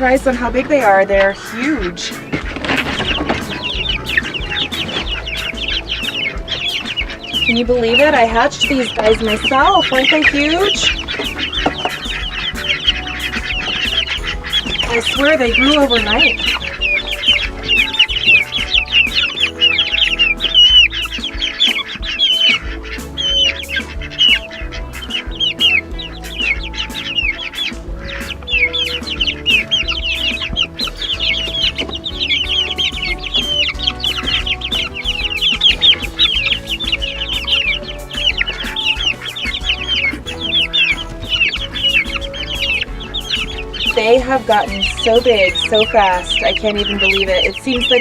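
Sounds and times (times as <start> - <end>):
background music: 0.0 - 48.0
chicks peeping: 0.0 - 48.0.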